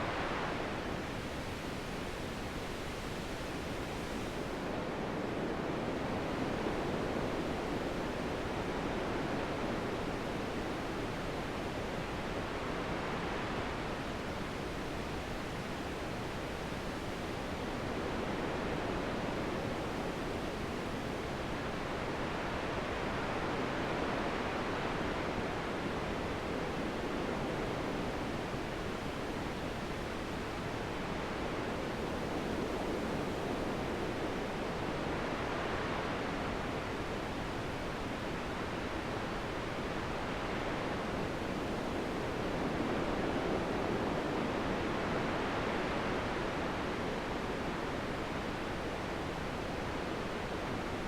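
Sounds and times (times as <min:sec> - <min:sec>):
wind blowing in gusts: 0:00.0 - 0:51.0.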